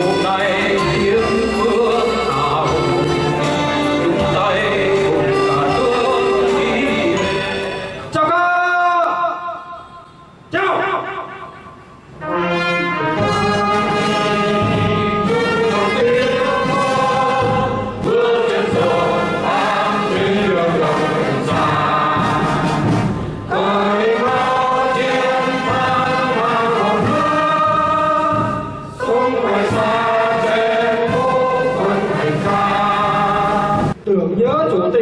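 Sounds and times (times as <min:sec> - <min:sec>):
brass band playing: 0:00.0 - 0:08.1, 0:12.0 - 0:34.0
choir singing: 0:00.0 - 0:08.1, 0:12.2 - 0:34.0.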